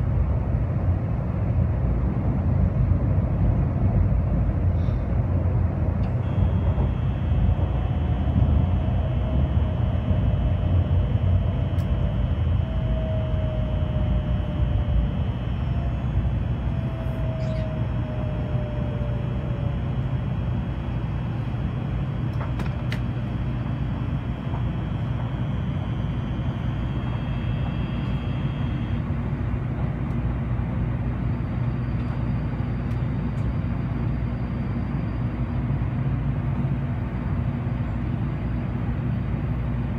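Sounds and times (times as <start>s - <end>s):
faint train whine: 0.0s - 39.9s
train low rumble: 0.0s - 39.9s.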